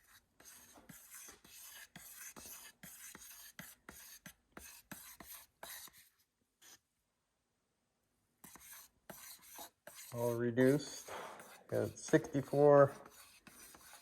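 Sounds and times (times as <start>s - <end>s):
stir stick scraping in cup: 0.0s - 6.8s, 8.4s - 14.0s.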